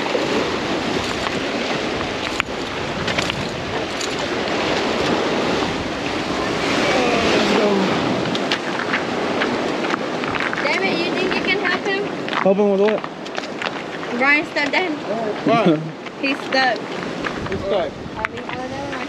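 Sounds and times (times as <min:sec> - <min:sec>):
sea waves breaking on rocks: 0:00.0 - 0:19.0
wind buffeting microphone: 0:00.0 - 0:19.0.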